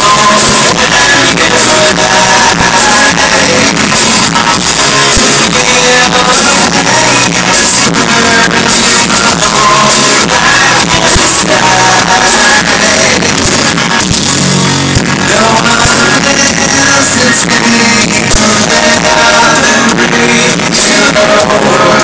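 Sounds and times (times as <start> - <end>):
person singing: 0.0 - 14.0, 15.0 - 22.0
drum kit: 0.0 - 22.0
electric guitars: 0.0 - 22.0.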